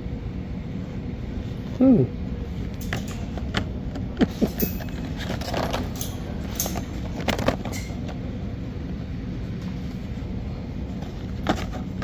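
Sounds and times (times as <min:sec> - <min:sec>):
low shop rumble: 0:00.0 - 0:12.0.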